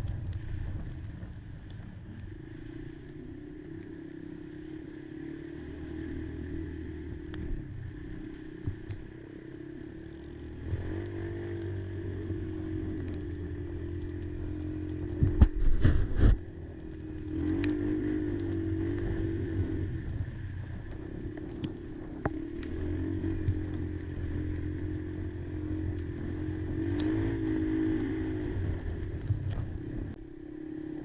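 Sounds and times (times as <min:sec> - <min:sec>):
quad engine running: 0:00.0 - 0:31.0.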